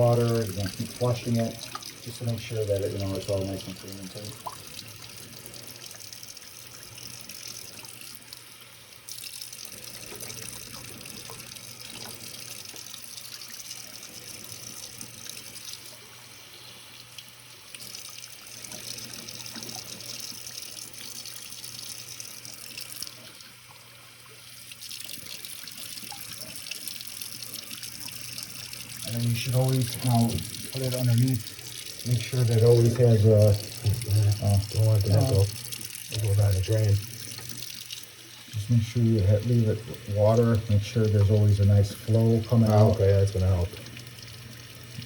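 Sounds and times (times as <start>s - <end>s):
tap water running: 0.0s - 45.0s.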